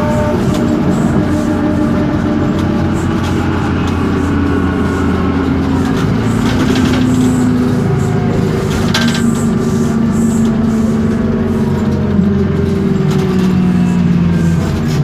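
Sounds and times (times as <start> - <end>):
bus engine humming: 0.0 - 15.0
drivetrain whine: 0.0 - 15.0.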